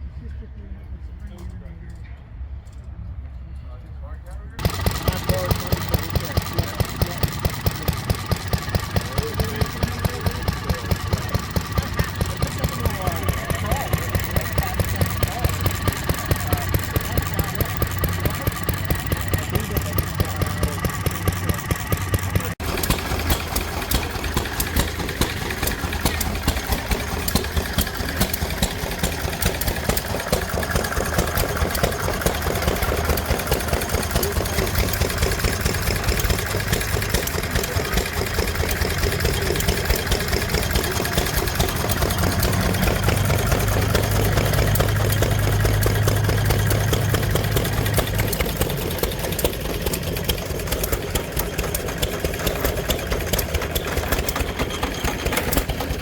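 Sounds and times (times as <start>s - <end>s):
engine running with rapid beat: 4.6s - 56.0s.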